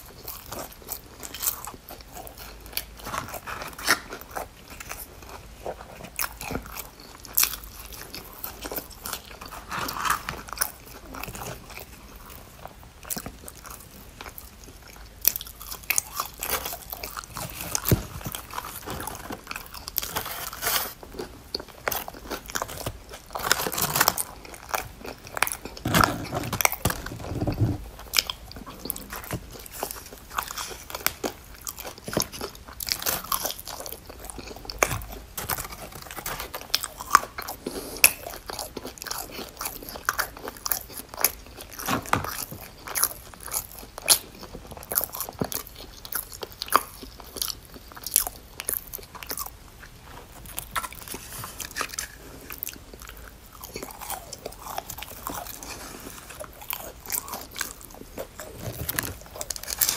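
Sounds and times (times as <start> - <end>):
person chewing crispy food: 0.0 - 59.9.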